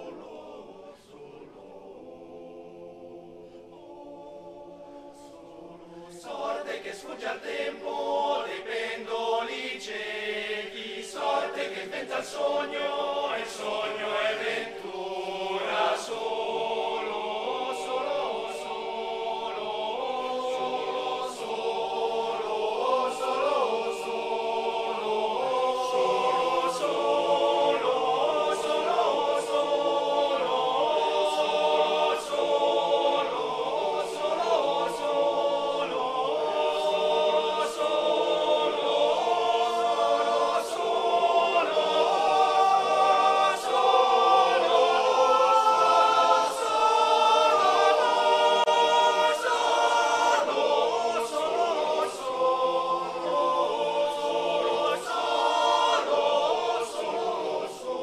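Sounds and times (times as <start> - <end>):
male choir singing a cappella: 0.0 - 58.0.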